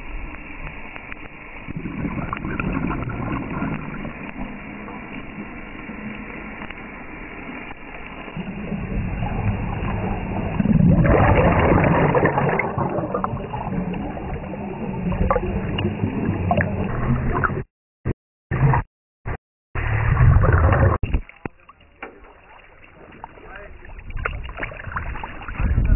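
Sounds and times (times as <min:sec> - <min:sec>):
water gurgling and rushing: 0:00.0 - 0:17.7, 0:18.5 - 0:25.9.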